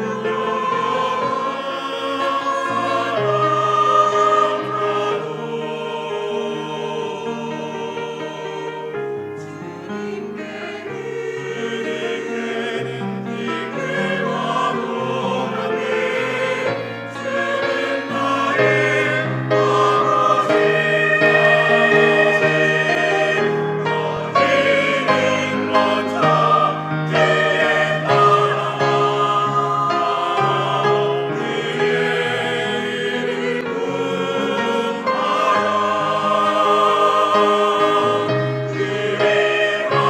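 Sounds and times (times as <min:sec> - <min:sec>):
church choir singing: 0:00.0 - 0:40.0.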